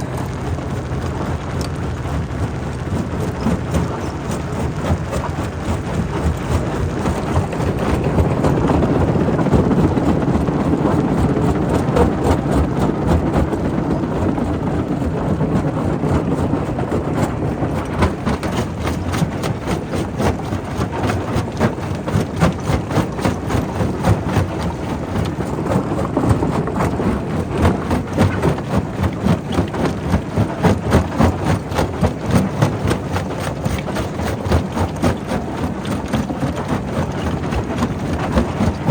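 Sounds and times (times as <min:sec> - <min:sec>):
rock crusher machinery rumbling: 0:00.0 - 0:38.9.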